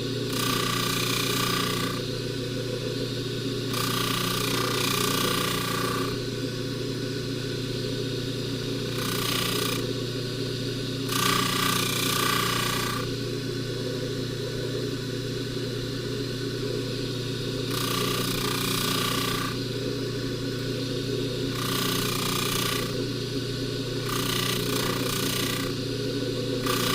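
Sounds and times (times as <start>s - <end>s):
buffer motor humming: 0.0s - 26.9s.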